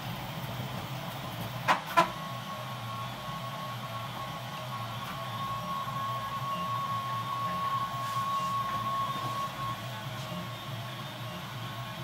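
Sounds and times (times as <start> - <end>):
thin high whine: 2.0 - 12.0.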